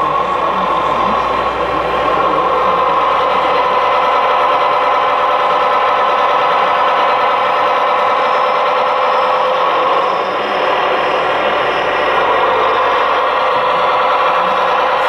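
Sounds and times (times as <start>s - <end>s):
model locomotive humming: 0.0s - 15.0s.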